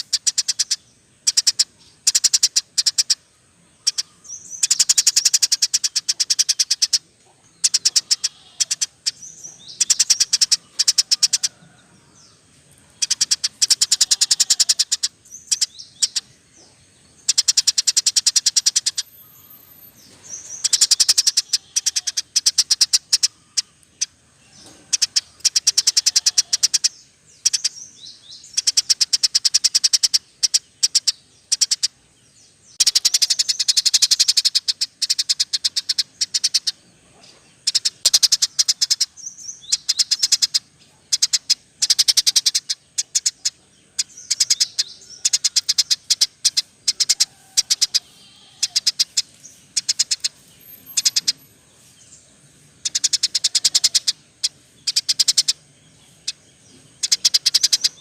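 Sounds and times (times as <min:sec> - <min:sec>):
small birds chattering trills: 0:00.0 - 0:58.0.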